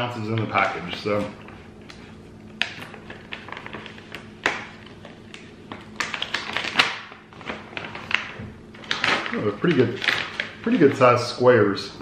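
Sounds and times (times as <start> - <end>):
plastic pouch crinkling: 0.2 - 11.2.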